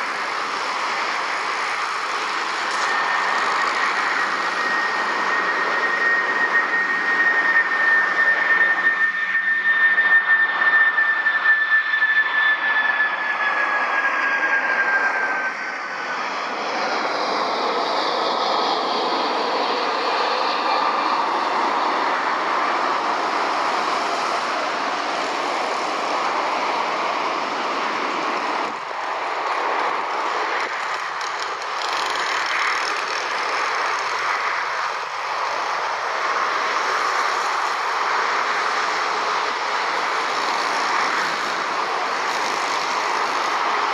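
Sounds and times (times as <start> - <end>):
jet engine whine and rush: 0.0 - 43.9.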